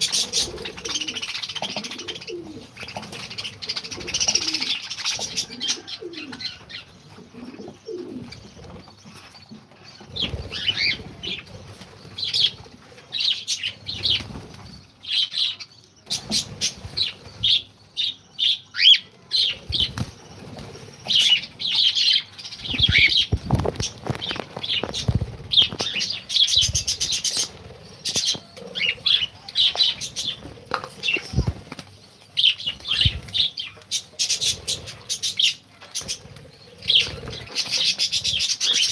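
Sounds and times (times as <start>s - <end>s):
wings flapping: 0.0s - 12.9s, 13.8s - 14.8s, 19.5s - 38.9s
pigeons cooing: 0.0s - 14.5s, 18.8s - 38.9s
birds chirping and calling: 0.0s - 38.9s.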